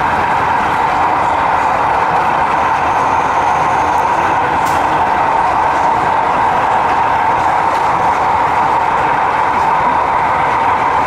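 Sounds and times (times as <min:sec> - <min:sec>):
model train running: 0:00.0 - 0:11.0.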